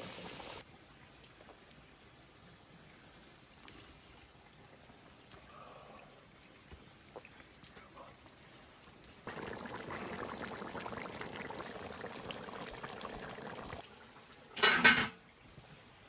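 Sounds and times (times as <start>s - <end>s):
stew bubbling at a boil: 0.0s - 15.7s.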